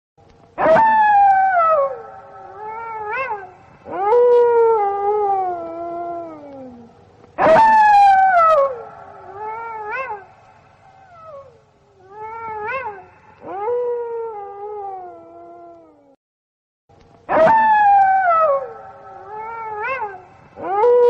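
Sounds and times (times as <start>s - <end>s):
wolf howling: 0.6s - 16.2s, 17.3s - 21.0s.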